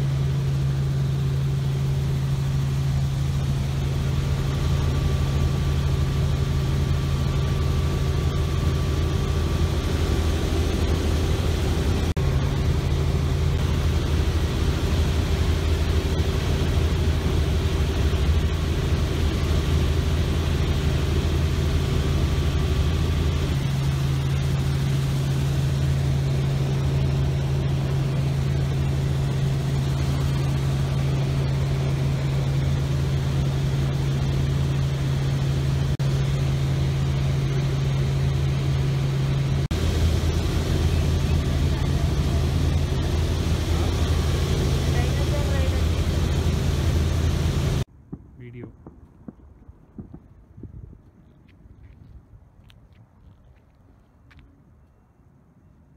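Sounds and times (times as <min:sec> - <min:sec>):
helicopter engine and rotors drone: 0:00.0 - 0:51.4.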